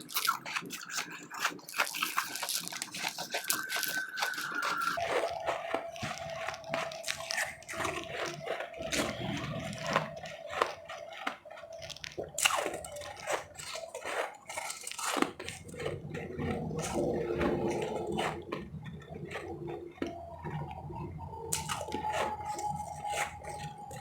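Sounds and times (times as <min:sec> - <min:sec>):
crunching and chewing ice: 0:00.0 - 0:24.0.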